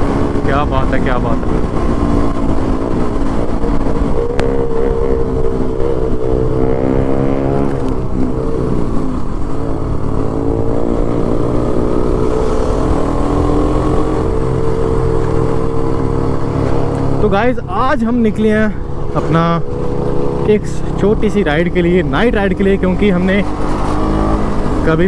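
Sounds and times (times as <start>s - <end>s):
motorcycle engine running: 0.0s - 25.0s
wind rumble: 0.0s - 25.0s.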